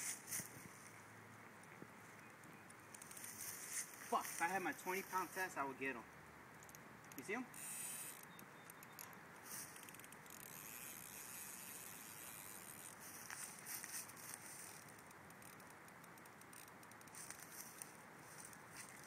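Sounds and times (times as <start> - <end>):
faint outdoor hiss: 0.0 - 19.0
soft ticks and rustles: 0.0 - 19.0.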